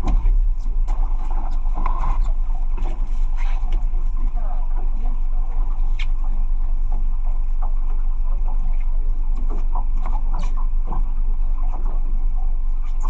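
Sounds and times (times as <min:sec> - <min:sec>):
boat motor droning: 0:00.0 - 0:13.0.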